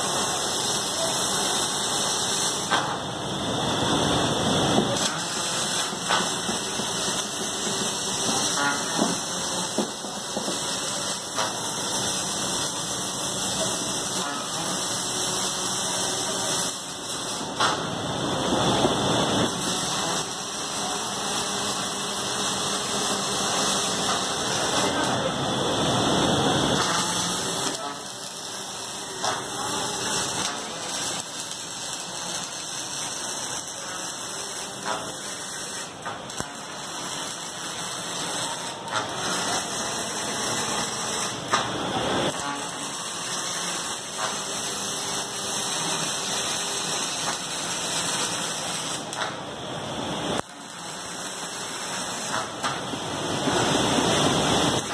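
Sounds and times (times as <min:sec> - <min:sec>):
factory machinery noise: 0:00.0 - 0:54.9
welding arcs hissing: 0:00.0 - 0:54.9.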